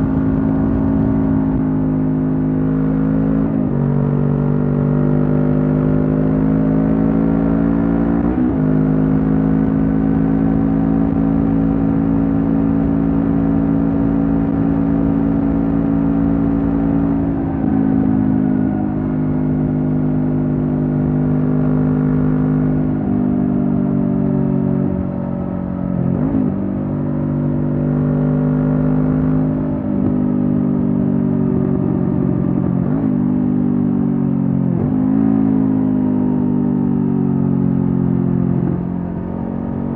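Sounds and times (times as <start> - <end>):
motorcycle engine running: 0.0 - 7.9, 8.6 - 39.9.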